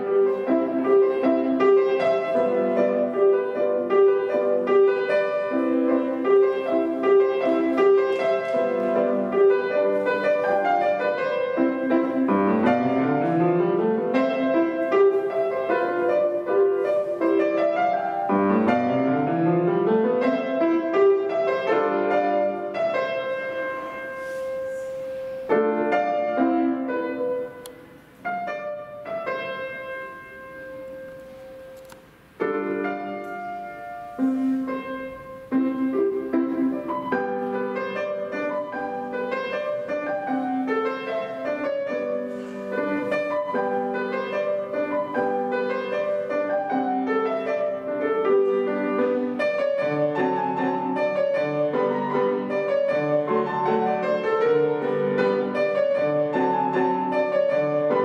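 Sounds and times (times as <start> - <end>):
classical solo piano: 0.0 - 58.0.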